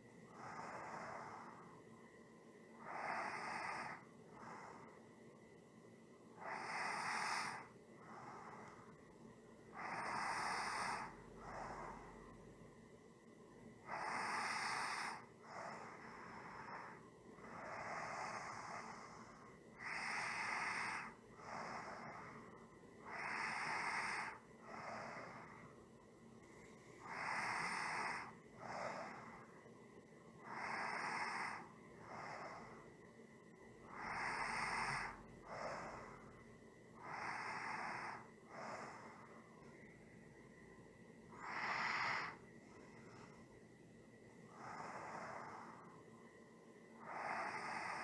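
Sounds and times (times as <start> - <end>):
person breathing slowly: 0.0 - 2.0, 2.6 - 5.3, 6.3 - 12.7, 13.8 - 40.7, 41.3 - 48.0.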